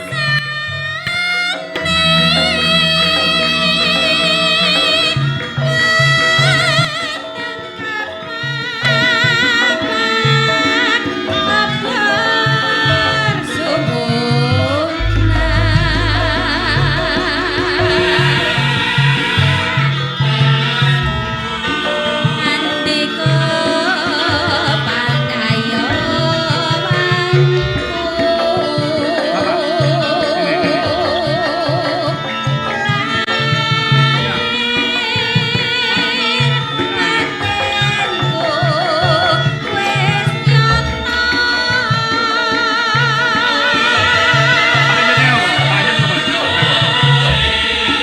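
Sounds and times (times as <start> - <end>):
gamelan ensemble playing: 0.0 - 48.0
wavering vibrato melody: 0.0 - 48.0
low hand-drum beats: 1.6 - 6.9, 10.5 - 48.0.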